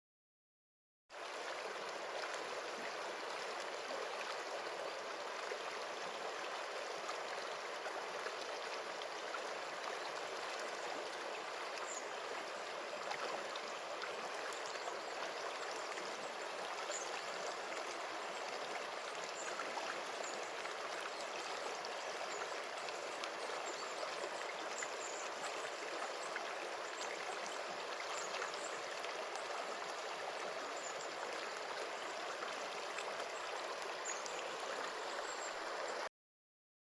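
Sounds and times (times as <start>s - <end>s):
stream water flowing: 1.1s - 36.1s.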